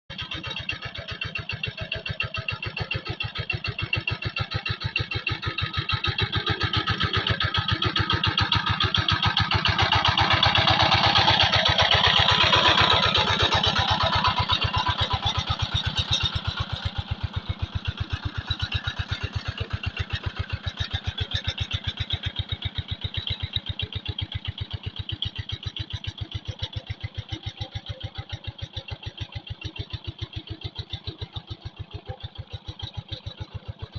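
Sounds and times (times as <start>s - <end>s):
tractor engine chugging: 0.1s - 33.9s.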